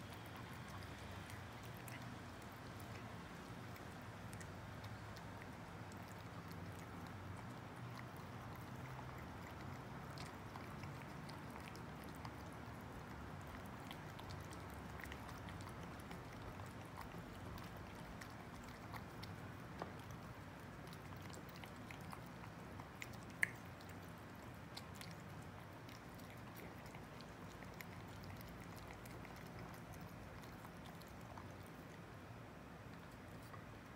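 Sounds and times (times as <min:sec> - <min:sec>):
cats chewing and smacking: 0:00.0 - 0:33.9
faint low hum: 0:00.0 - 0:33.9.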